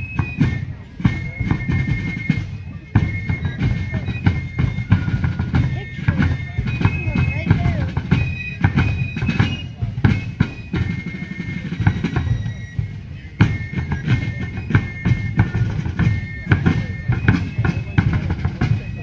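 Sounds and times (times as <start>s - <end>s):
snare drums beating: 0.0s - 19.0s.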